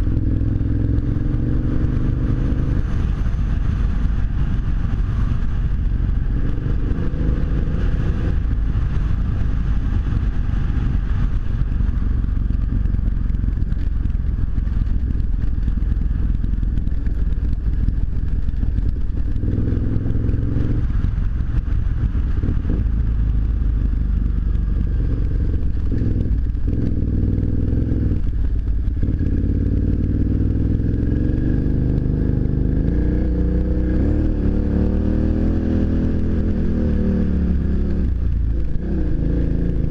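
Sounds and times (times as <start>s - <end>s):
low wind rumble: 0.0s - 39.9s
motorcycle engine running: 0.0s - 39.9s.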